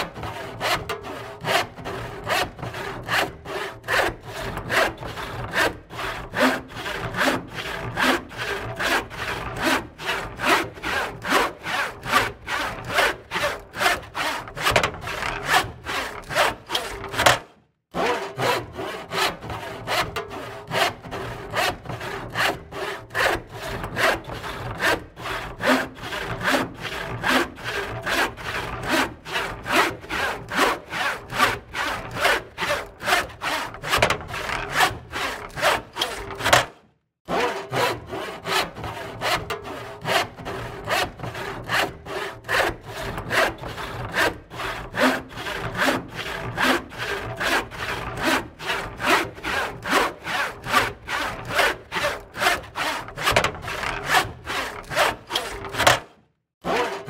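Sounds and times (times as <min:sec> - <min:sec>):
hand saw cutting wood: 0:00.0 - 0:57.0.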